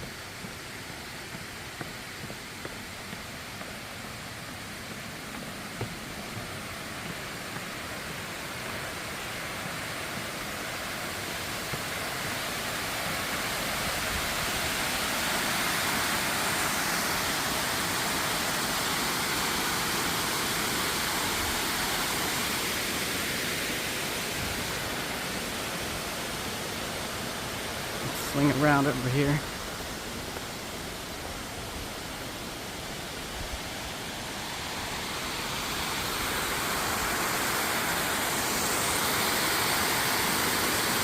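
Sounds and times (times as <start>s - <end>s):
water pouring over a dam: 0.0s - 41.0s.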